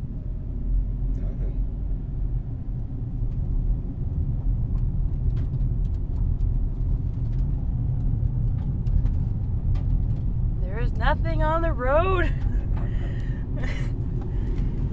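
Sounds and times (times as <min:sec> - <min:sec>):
car driving rumble: 0:00.0 - 0:14.9.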